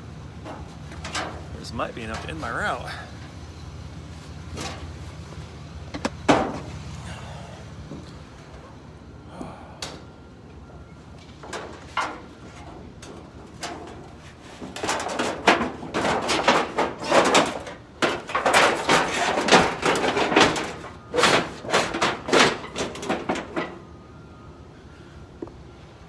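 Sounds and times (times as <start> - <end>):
scrap metal clattering and banging: 0.0 - 8.9, 9.8 - 24.3.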